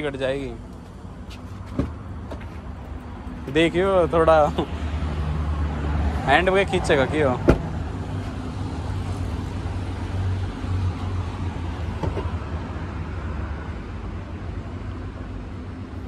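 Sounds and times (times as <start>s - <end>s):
car engine idling: 0.0s - 16.0s
road traffic: 0.0s - 16.0s.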